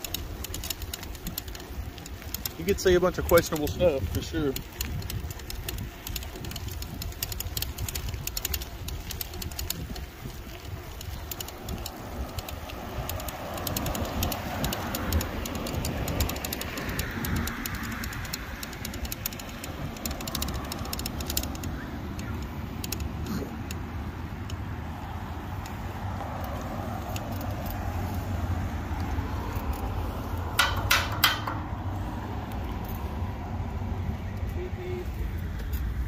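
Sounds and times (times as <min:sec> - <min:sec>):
fast clicking rattle: 0:00.0 - 0:24.6, 0:26.4 - 0:28.2, 0:29.0 - 0:31.7
wind buffeting microphone: 0:00.0 - 0:34.4.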